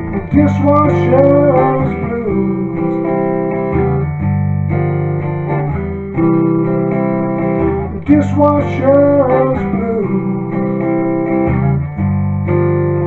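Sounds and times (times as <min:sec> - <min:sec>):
acoustic guitar strumming blues: 0:00.0 - 0:13.0.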